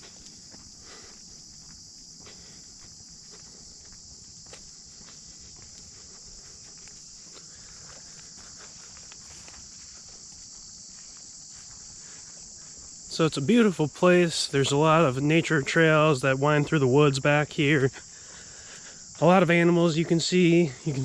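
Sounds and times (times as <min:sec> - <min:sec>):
footsteps on dirt trail: 0:00.0 - 0:21.0
insect chorus droning: 0:00.0 - 0:21.0.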